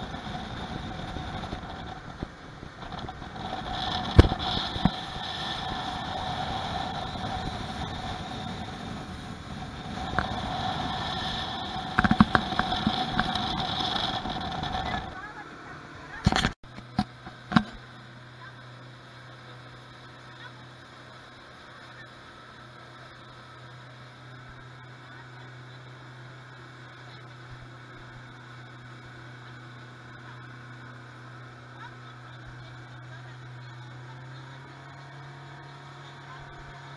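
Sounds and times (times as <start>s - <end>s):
outboard motor running: 0.0s - 36.9s
wind and water rushing: 0.0s - 36.9s.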